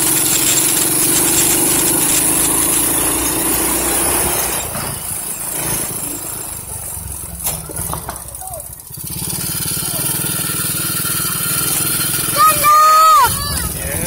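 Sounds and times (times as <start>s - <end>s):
small vehicle engine running: 0.0s - 14.0s.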